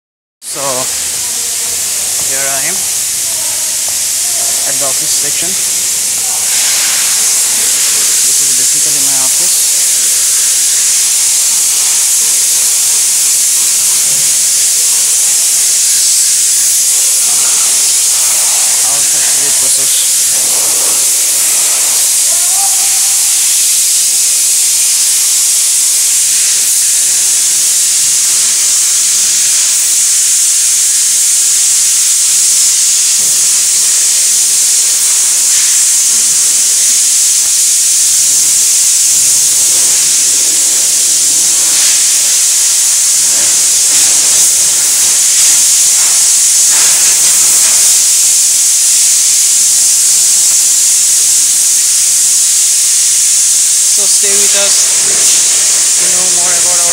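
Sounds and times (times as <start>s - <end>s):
high-pitched machinery hiss: 0.4s - 56.9s.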